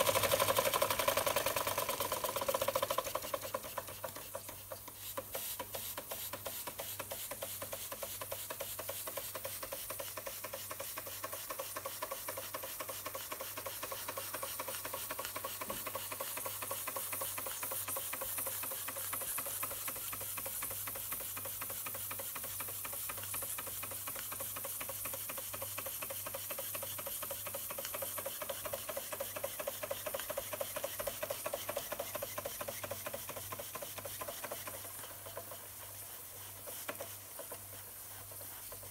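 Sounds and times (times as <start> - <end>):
steam hissing: 0.0 - 38.9
toy steam engine puffing: 0.0 - 38.9.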